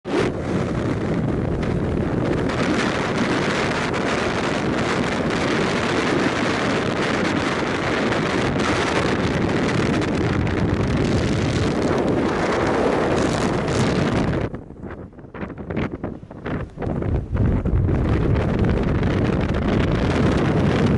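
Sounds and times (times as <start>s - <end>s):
strong wind buffeting microphone: 0.0s - 20.9s.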